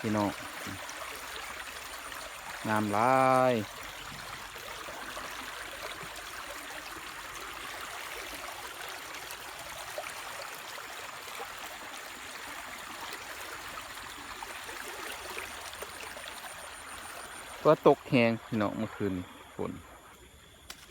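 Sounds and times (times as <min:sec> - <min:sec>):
floodwater rushing in stream: 0:00.0 - 0:20.9.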